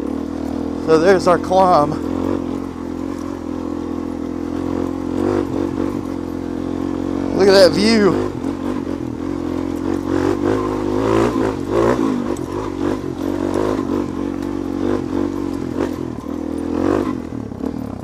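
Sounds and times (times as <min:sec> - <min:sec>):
clatter and scraping over rough ground: 0:00.0 - 0:18.0
motorcycle engine running: 0:00.0 - 0:18.0.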